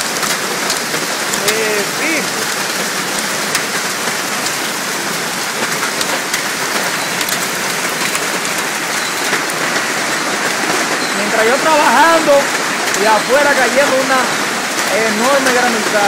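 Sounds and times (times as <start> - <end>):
hail and rain pouring down: 0.0 - 16.0
hailstones ticking on hard surfaces: 0.0 - 16.0.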